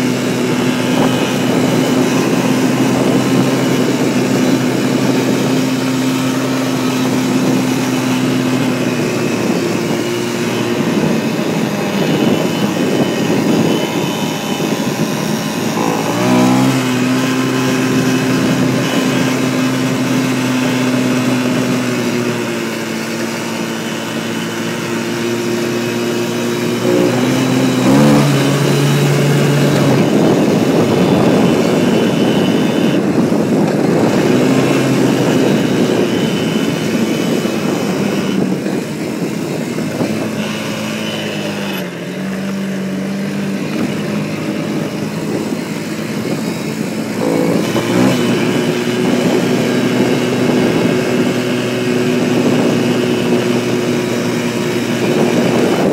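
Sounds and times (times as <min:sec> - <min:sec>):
quad bike engine running: 0:00.0 - 0:55.9.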